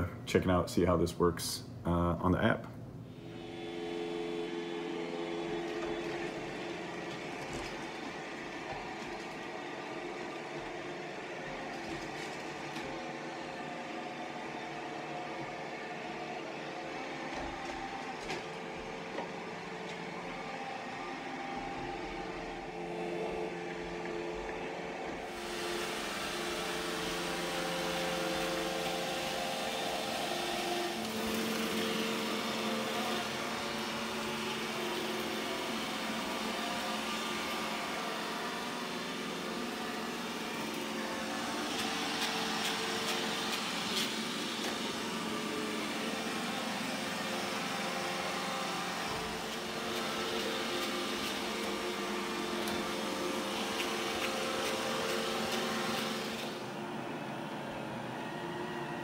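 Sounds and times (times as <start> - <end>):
robot vacuum whirring: 3.2 - 59.0.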